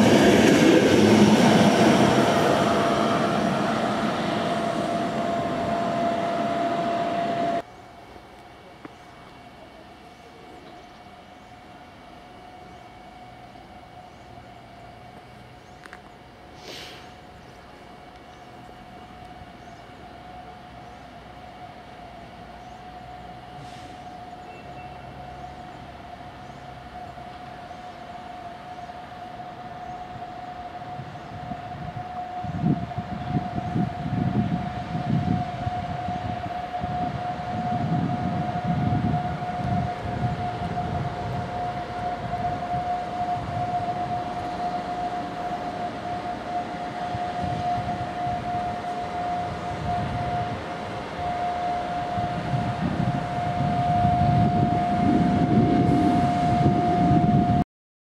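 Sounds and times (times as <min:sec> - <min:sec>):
electric locomotive whine: 0:00.0 - 0:57.6.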